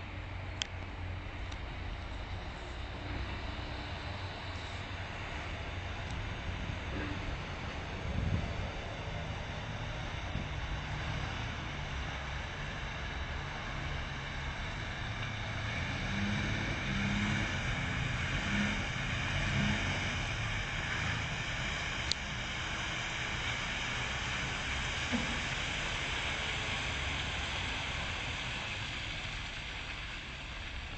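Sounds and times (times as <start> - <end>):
truck diesel engine running: 0.0 - 30.9.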